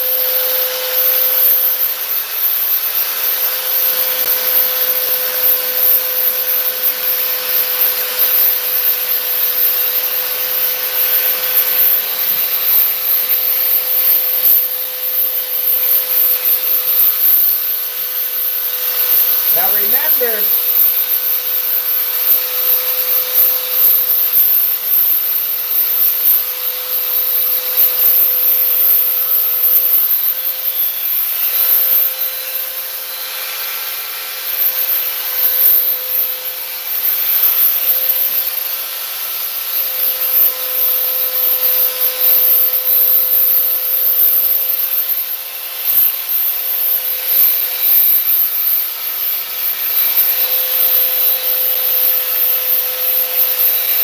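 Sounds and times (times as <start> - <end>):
electric sander grinding: 0.0 - 54.0.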